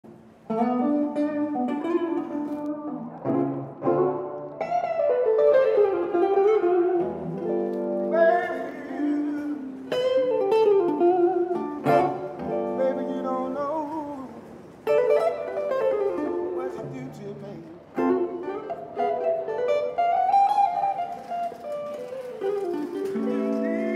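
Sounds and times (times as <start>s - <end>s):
electric guitar blues lines: 0.1s - 23.9s.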